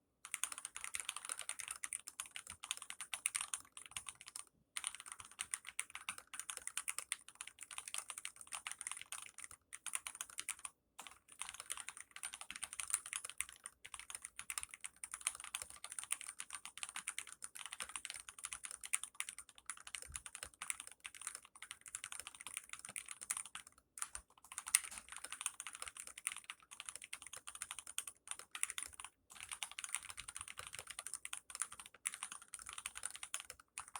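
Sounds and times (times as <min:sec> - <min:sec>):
fast mechanical keyboard typing: 0:00.3 - 0:33.9.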